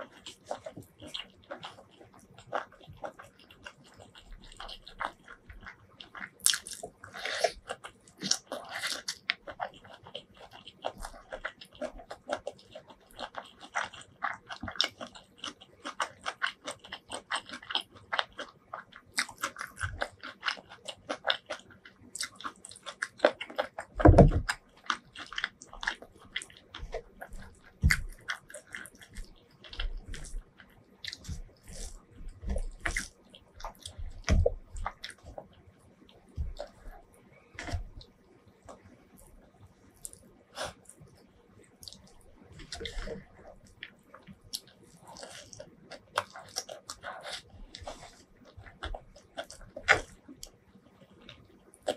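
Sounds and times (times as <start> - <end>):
wet chewing and mouth clicks: 0.0 - 51.9.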